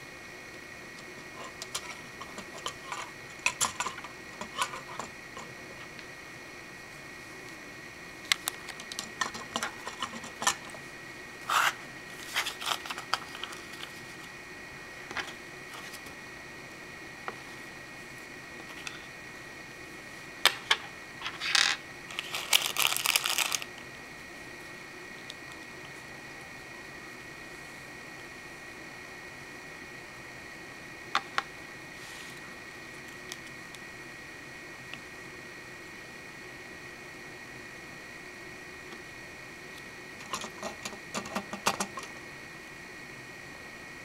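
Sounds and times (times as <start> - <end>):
faint steady whine: 0.0 - 44.0.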